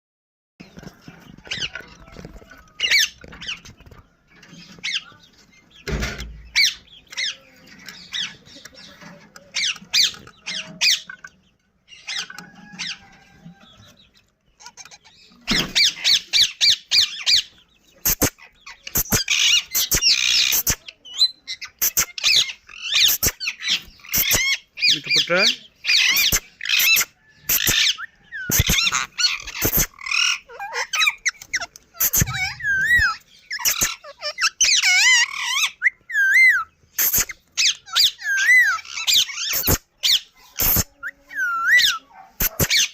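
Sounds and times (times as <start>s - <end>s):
parrot chicks squawking: 0.6s - 42.9s.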